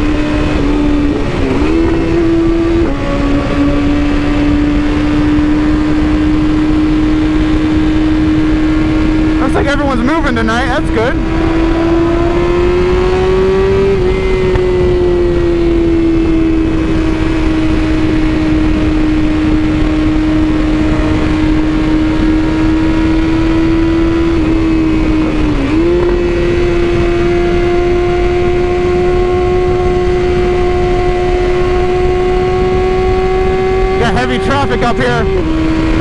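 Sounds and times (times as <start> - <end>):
motorcycle engine cruising: 0.0 - 36.0
wind rush: 0.0 - 36.0.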